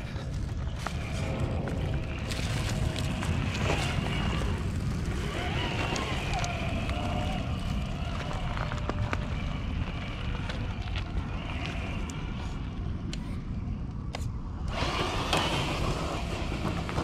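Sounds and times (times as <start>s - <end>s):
low rumble on microphone: 0.0s - 17.0s
electric motor whining: 0.8s - 12.6s, 14.7s - 17.0s.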